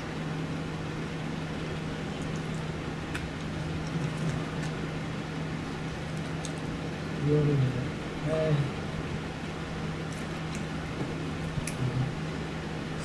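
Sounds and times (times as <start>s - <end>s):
appliance low hum: 0.0s - 13.0s.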